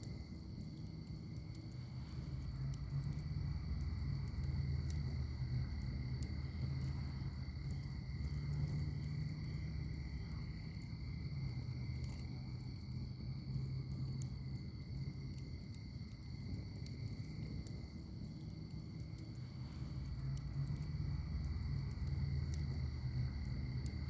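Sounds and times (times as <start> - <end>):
fire crackling and popping: 0.0 - 24.0
high insect trill: 0.0 - 24.0.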